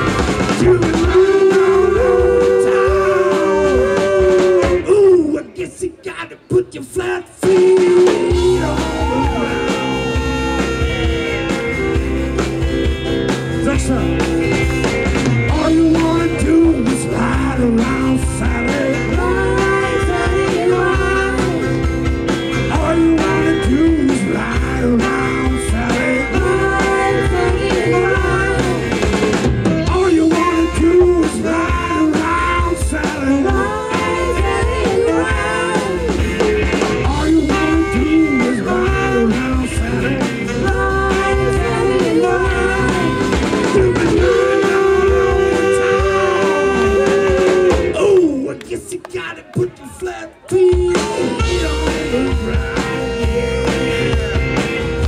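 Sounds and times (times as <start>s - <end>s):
bass and drums: 0.0s - 5.9s, 6.5s - 49.9s, 50.5s - 55.0s.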